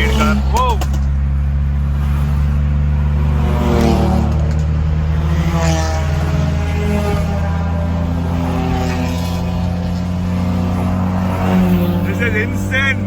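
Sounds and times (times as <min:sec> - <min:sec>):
car engines revving: 0:00.0 - 0:13.0
low engine drone: 0:00.0 - 0:13.0.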